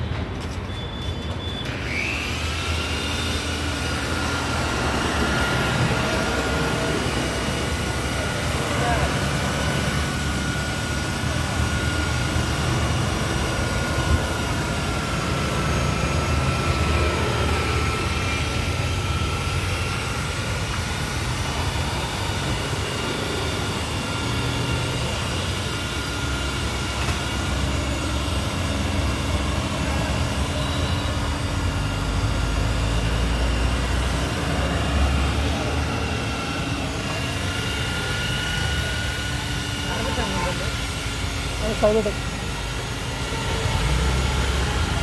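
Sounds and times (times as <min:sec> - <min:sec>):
electric car polisher whining: 0:00.0 - 0:45.0.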